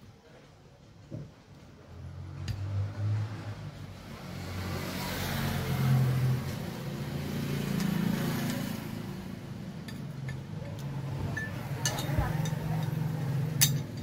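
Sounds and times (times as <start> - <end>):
vehicle passing by: 1.9 - 14.0.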